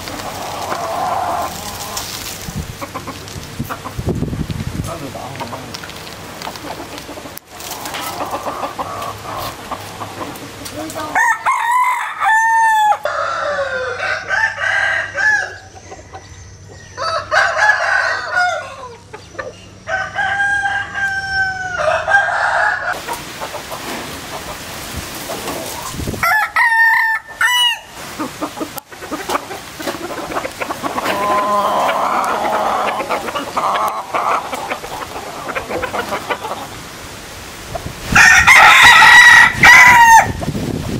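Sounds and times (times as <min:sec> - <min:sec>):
roosters crowing: 0:00.0 - 0:04.1, 0:06.4 - 0:40.6.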